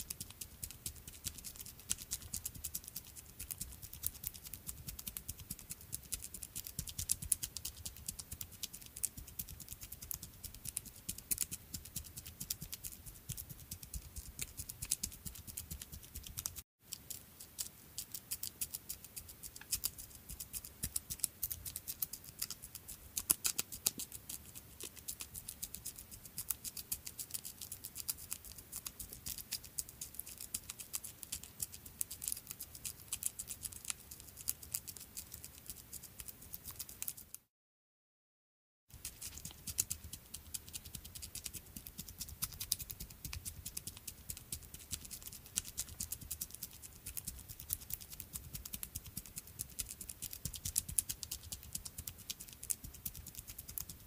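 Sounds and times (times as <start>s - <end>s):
small creature's pattering footsteps: 0.0s - 37.5s, 38.9s - 54.0s.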